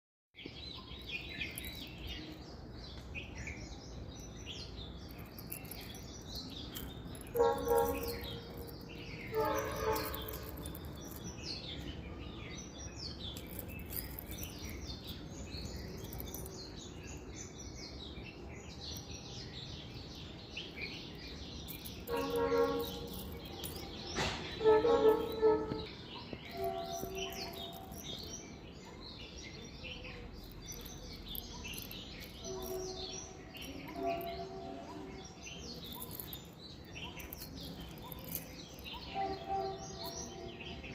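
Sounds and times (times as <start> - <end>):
many birds chirping: 0.4 - 40.9.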